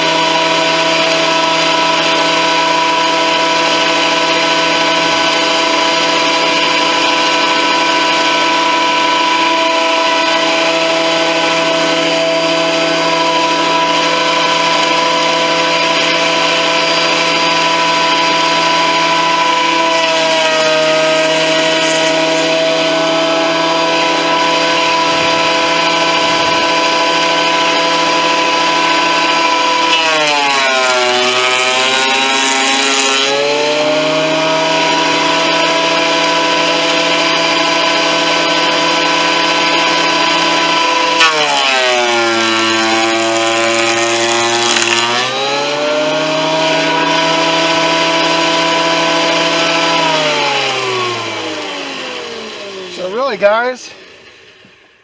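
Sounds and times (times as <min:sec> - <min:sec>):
thickness planer motor whine: 0:00.0 - 0:55.0.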